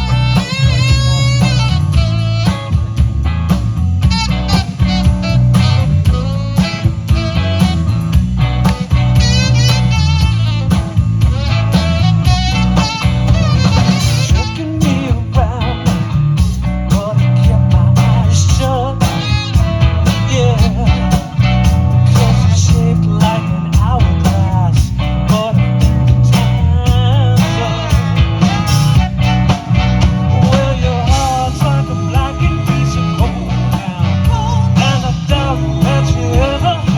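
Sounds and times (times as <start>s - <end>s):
drum beat: 0.0s - 36.9s
heavy bass: 0.0s - 36.9s.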